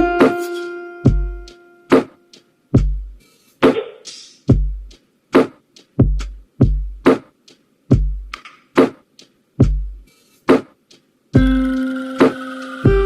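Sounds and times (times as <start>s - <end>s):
drum machine kick drum: 0.0s - 13.0s
drum machine snare hits: 0.0s - 13.0s.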